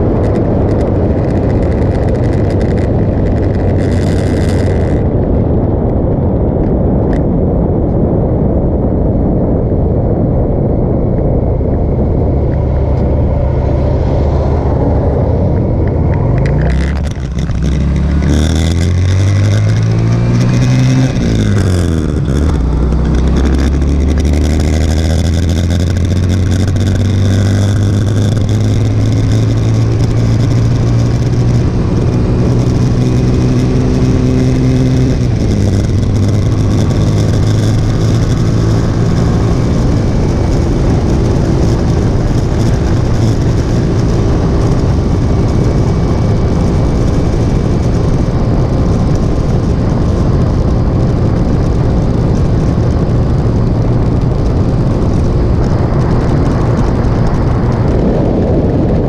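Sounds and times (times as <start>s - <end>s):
motorcycle engine accelerating: 0.0s - 7.4s, 8.2s - 59.0s
wind noise rushing: 0.0s - 59.0s.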